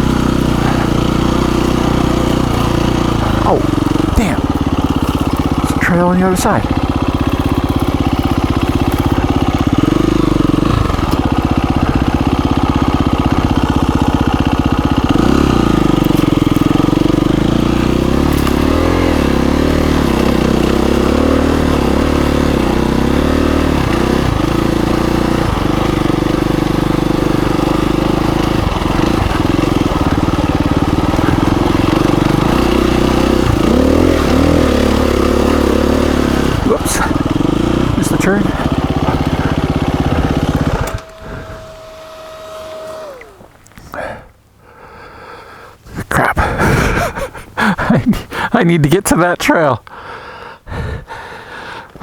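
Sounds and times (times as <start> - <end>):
dirt bike engine revving: 0.0 - 44.4.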